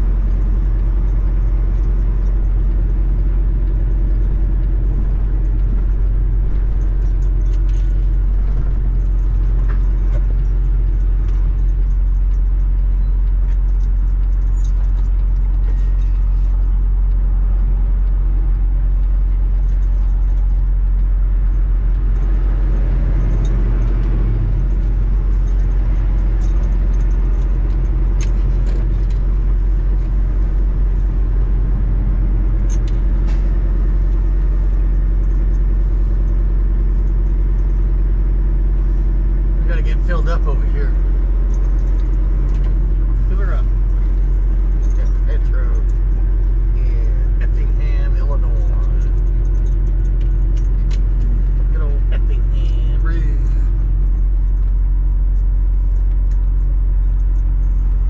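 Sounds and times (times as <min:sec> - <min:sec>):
light rattles: 0:00.0 - 0:58.0
truck diesel engine drone: 0:00.0 - 0:58.0.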